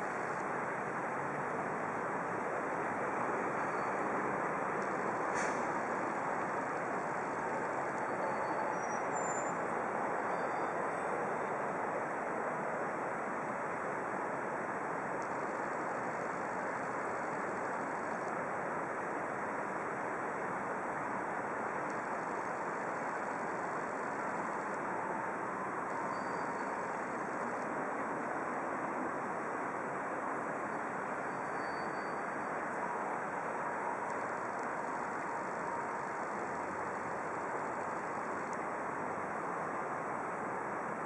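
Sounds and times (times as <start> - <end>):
distant road traffic: 0.0 - 41.0.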